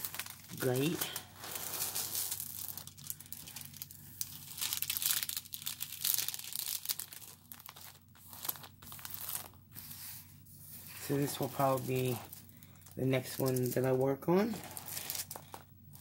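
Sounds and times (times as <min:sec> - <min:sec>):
plastic film crinkling: 0:00.0 - 0:16.0.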